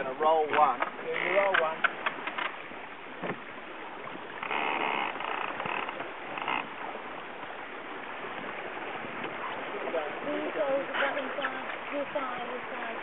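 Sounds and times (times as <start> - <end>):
water rushing: 0.0 - 13.0
wind: 0.0 - 13.0.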